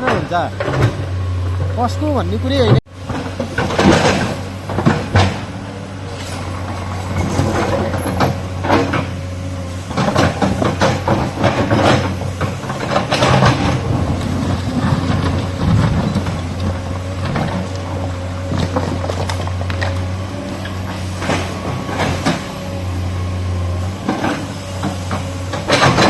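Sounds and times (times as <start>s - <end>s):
excavator knocks and clatter: 0.0s - 1.8s, 2.5s - 26.0s
excavator diesel engine humming: 0.0s - 26.0s.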